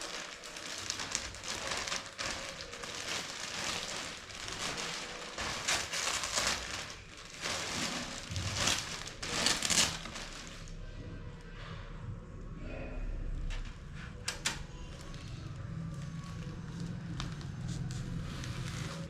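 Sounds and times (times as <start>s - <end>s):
plastic wrap rustling and crinkling: 0.0s - 10.9s, 13.5s - 19.0s.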